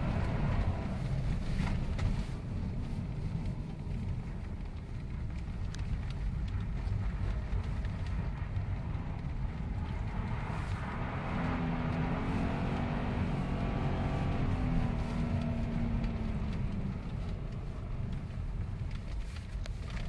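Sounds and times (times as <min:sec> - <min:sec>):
car engine: 0:00.0 - 0:20.0.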